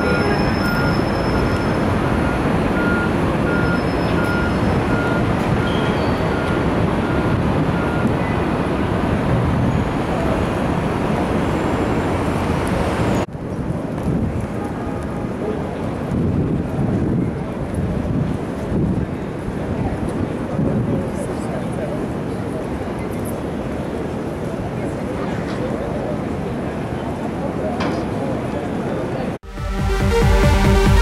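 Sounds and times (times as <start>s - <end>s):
city street traffic: 0.0s - 31.0s.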